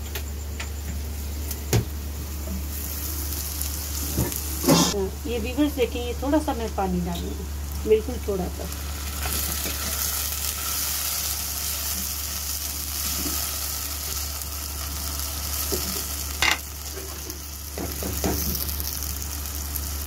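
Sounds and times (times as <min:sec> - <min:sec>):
onions sizzling in hot oil: 0:01.0 - 0:20.0.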